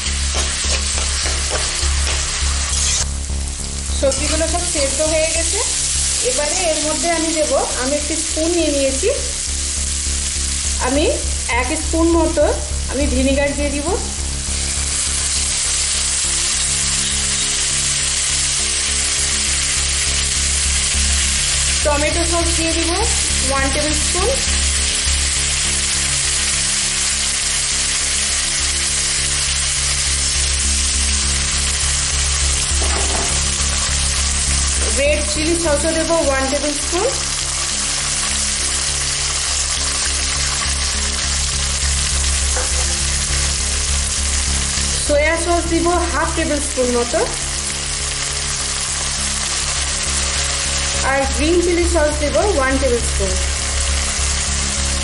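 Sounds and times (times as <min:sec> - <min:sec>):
vegetables sizzling in oil: 0:00.0 - 0:55.0.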